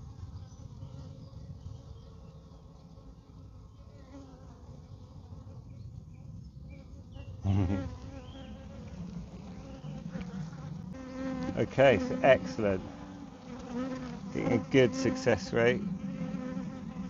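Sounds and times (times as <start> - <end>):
honeybees buzzing: 0.2 - 17.0.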